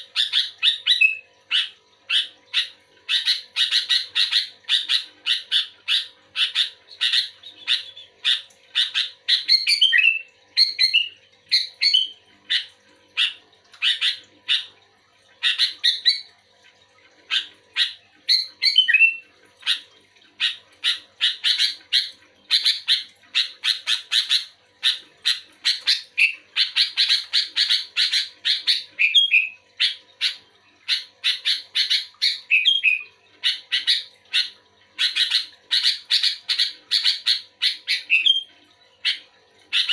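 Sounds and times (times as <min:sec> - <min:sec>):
bird chirping: 0:00.1 - 0:14.7, 0:15.4 - 0:16.3, 0:17.3 - 0:39.9.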